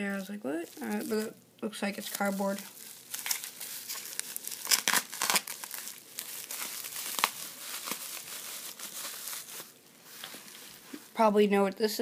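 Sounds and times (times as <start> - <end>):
packaging crinkling and tearing: 0.7 - 1.3, 2.0 - 11.1.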